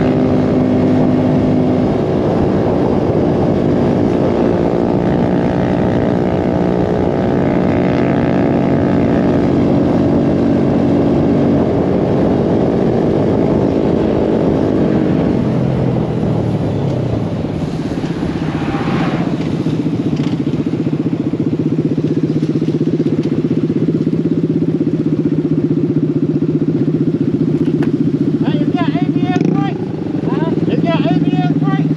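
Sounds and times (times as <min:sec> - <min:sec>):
mini bike engine running: 0:00.0 - 0:31.9.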